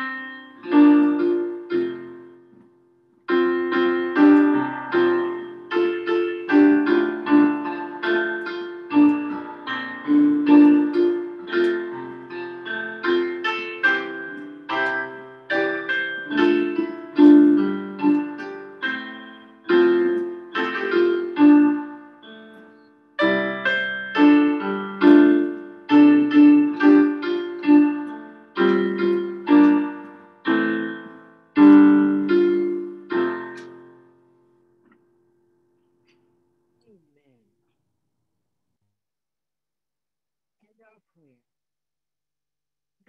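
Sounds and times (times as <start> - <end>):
piano playing slow chords: 0.0 - 36.7.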